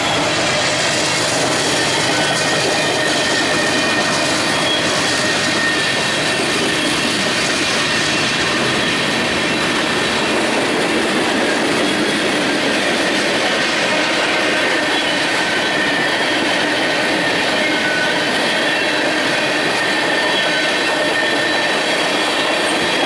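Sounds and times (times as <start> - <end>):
high wheel squeal: 0.0 - 23.0
train wheels rumbling on rail: 0.0 - 23.0.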